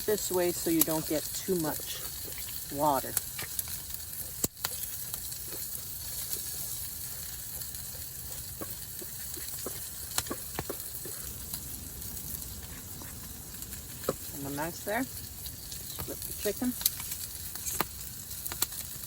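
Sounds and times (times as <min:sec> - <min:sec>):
chicken sizzling in a pan: 0:00.0 - 0:19.0
clicks and crackles: 0:00.0 - 0:19.0.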